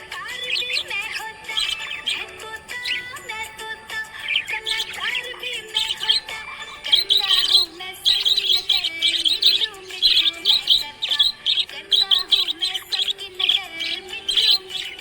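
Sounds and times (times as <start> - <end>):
parrots chirping: 0.0 - 15.0.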